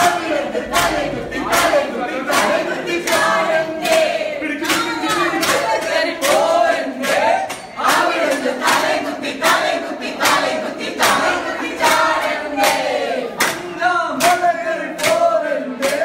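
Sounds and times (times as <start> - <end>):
group singing in chorus: 0.0 - 16.0
sharp steady beats: 0.0 - 16.0.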